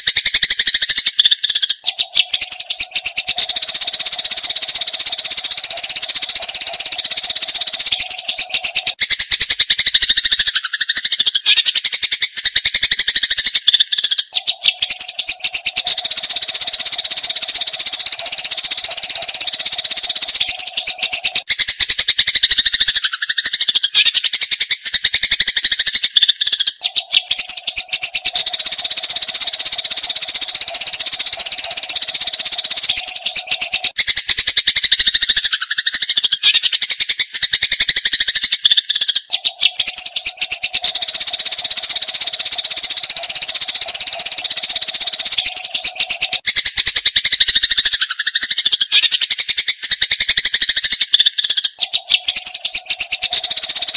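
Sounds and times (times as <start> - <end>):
sparrows chattering: 0.0 - 53.9.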